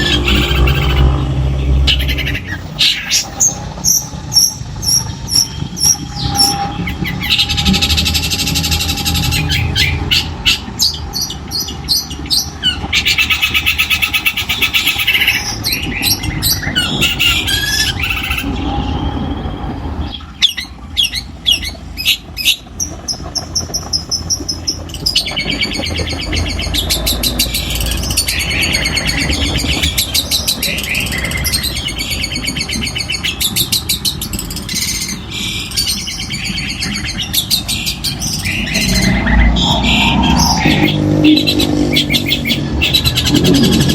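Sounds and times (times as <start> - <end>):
bird singing harsh chattering trills: 0.0 - 43.9
low steady rumble: 0.0 - 43.9.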